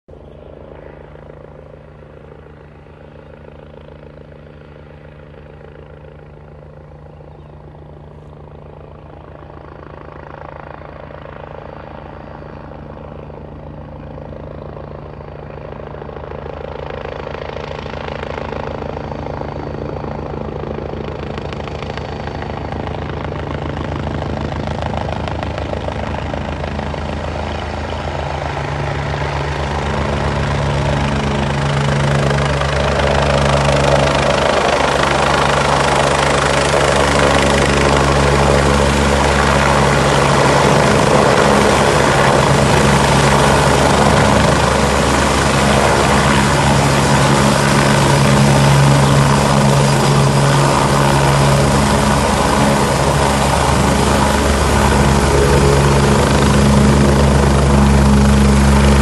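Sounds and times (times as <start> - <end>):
helicopter rotor and engine: 0.1 - 59.0.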